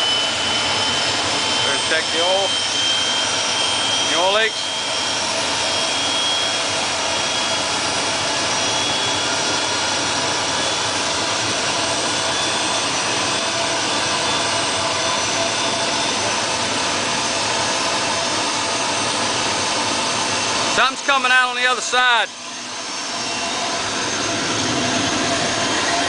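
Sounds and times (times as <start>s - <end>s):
gas turbine running: 0.0s - 26.0s
high turbine whine: 0.0s - 26.0s.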